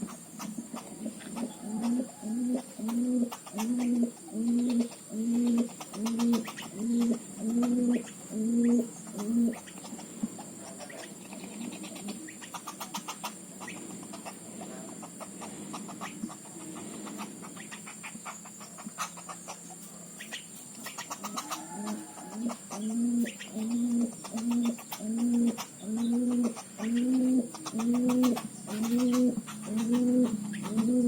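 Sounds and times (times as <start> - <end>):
dove cooing: 0.0 - 31.0
nestlings ticking calls: 0.0 - 31.0.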